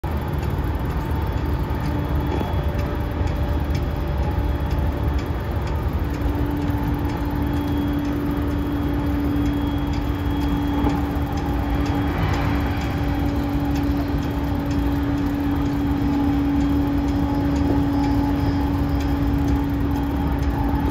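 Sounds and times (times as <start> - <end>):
air conditioner hum: 0.0 - 20.9
light regular ticking: 0.0 - 20.9
low rumble: 0.0 - 20.9.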